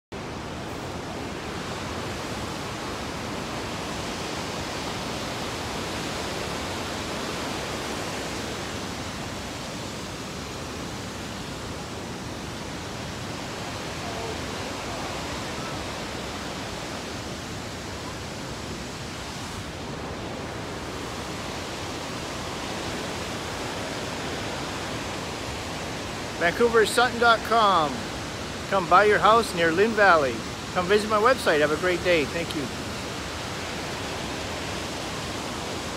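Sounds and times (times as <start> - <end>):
water rushing in creek: 0.1 - 35.9.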